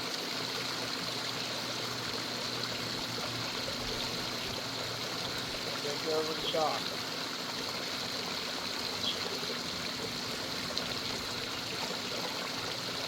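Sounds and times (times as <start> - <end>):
pond water trickling: 0.0 - 13.0.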